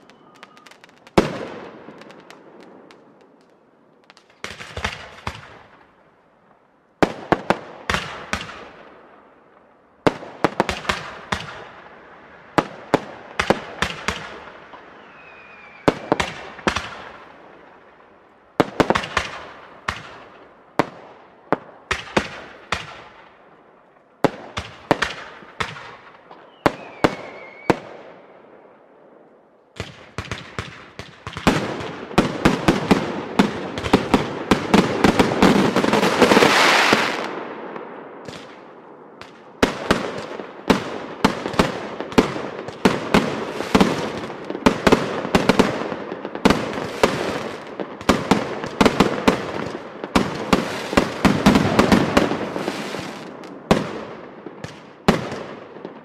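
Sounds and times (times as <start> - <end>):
fireworks bangs: 0.0 - 5.9, 9.6 - 23.4, 24.2 - 28.4, 29.8 - 56.0.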